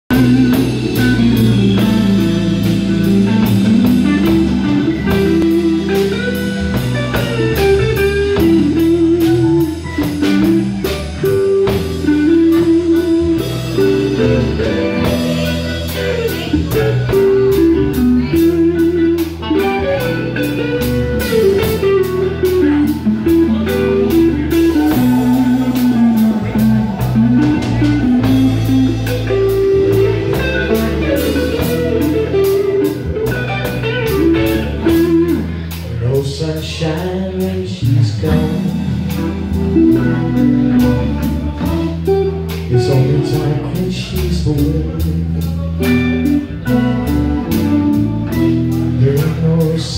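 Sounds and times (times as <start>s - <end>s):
electric bass: 0.0s - 49.9s
drum kit: 0.1s - 49.9s
electric guitar lead: 0.1s - 49.9s.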